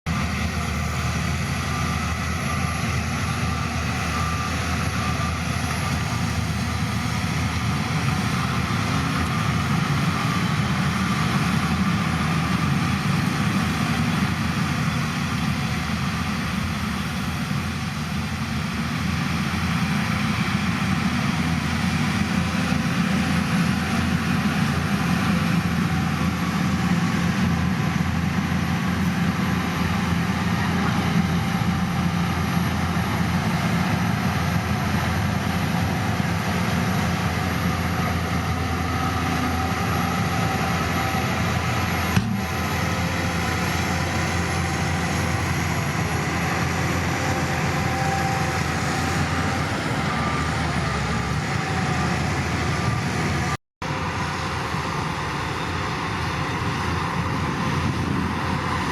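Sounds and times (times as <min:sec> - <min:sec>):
heavy diesel engine running: 0:00.1 - 0:58.9.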